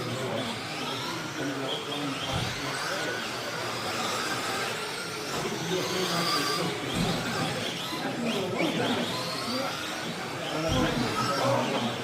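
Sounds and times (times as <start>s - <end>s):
radio-controlled car motors whining: 0.0s - 12.0s.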